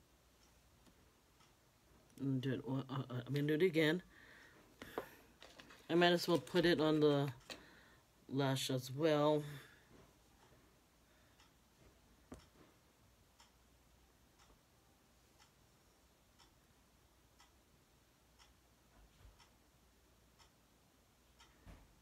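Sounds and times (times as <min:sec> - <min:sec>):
clock ticking: 0:00.0 - 0:22.0.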